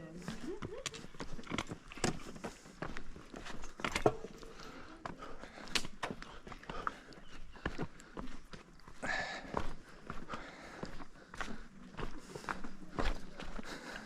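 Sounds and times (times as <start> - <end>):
footsteps with clicks and scuffs: 0.0 - 14.0.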